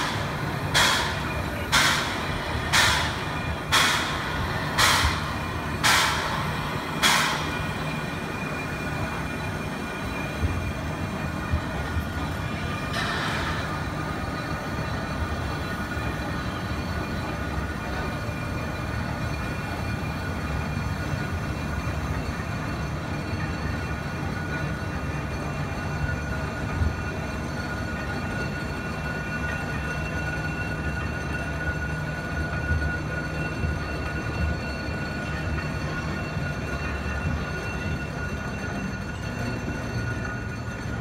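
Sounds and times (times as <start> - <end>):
steady steam hiss: 0.0 - 40.3
faint whining tones: 0.0 - 41.0
steam locomotive chuffs: 0.0 - 41.0.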